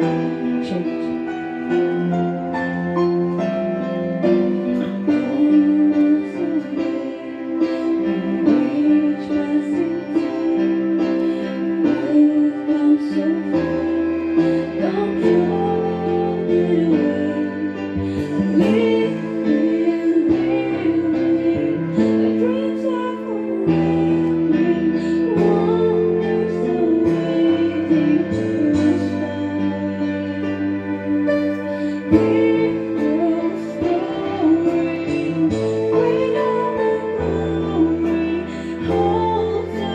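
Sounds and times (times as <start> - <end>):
instrumental backing with bass line: 0.0 - 39.9
woman singing into a microphone: 0.0 - 39.9.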